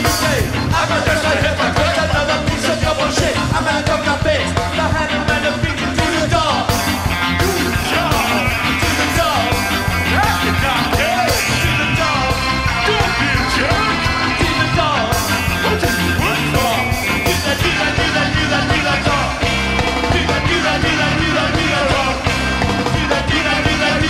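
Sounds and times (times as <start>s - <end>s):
man singing lead vocal: 0.0s - 24.0s
ska band playing live: 0.0s - 24.0s.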